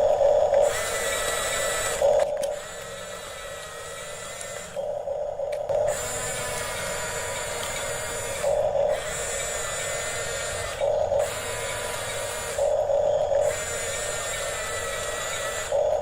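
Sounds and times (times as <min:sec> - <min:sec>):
louder low motor whine: 0:00.0 - 0:16.0
small electric motors whirring: 0:00.0 - 0:16.0.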